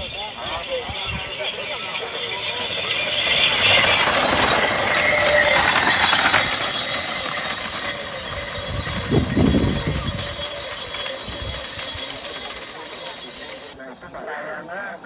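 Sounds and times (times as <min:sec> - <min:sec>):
cart and hooves clattering: 0:00.0 - 0:15.0.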